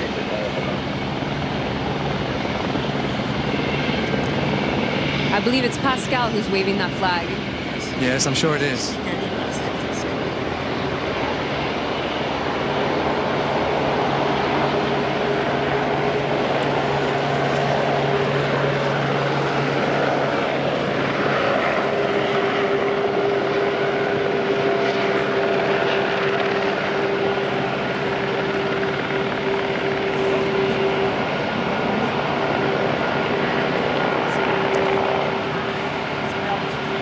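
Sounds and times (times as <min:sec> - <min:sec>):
jet engines at taxi power: 0:00.0 - 0:37.0.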